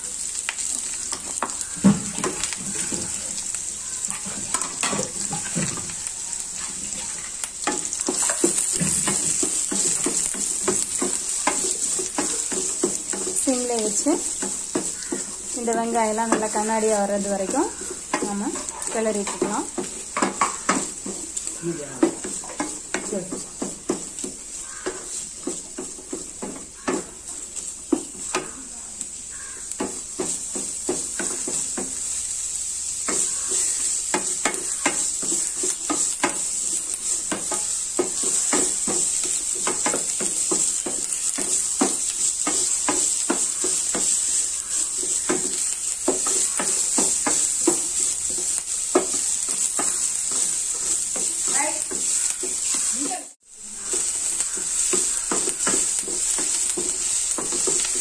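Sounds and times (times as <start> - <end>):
onions sizzling in oil: 0.0 - 58.0
wooden spatula scraping a pan: 0.6 - 58.0.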